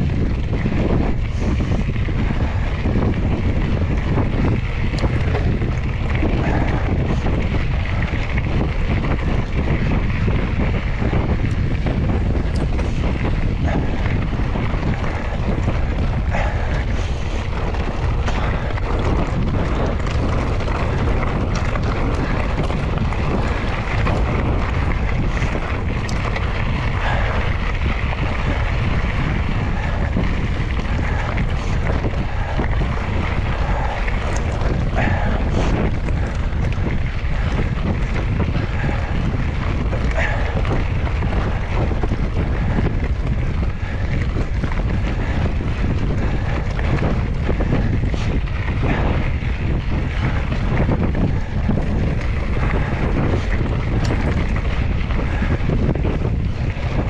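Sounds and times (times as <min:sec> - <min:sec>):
bike rattling over stones: 0:00.0 - 0:57.0
wind rumbling on microphone: 0:00.0 - 0:57.0.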